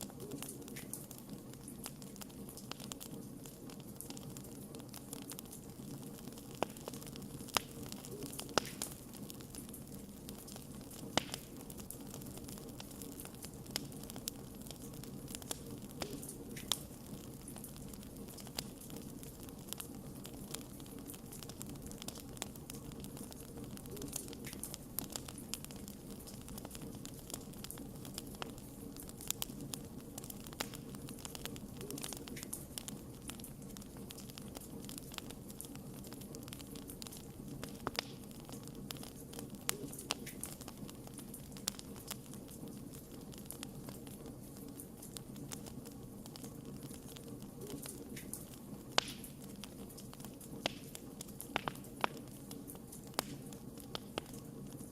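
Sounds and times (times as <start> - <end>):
fire crackling in fireplace: 0.0 - 54.9.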